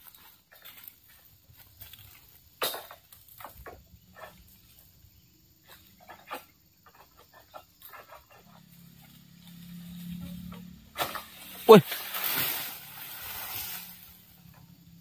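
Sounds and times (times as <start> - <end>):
sickle knocking and scraping fronds: 0.0 - 4.8, 5.6 - 14.8.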